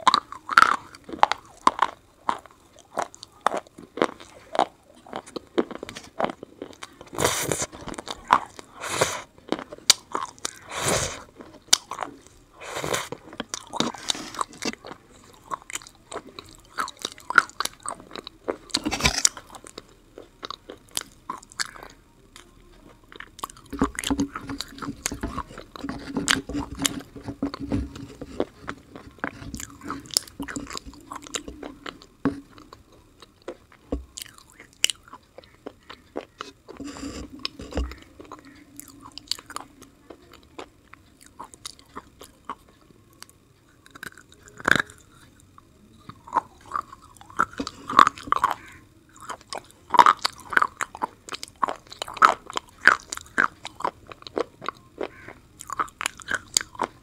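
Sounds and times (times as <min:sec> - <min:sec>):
gritty chewing: 0:00.0 - 0:57.0.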